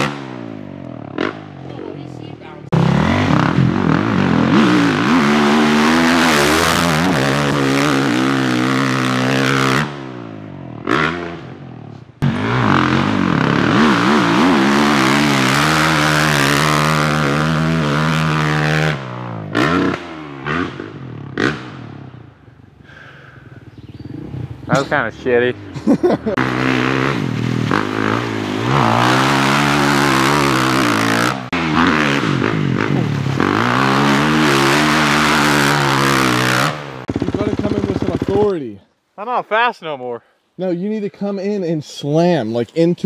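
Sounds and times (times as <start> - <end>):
dirt bike engine revving: 0.0 - 22.4, 23.6 - 38.6.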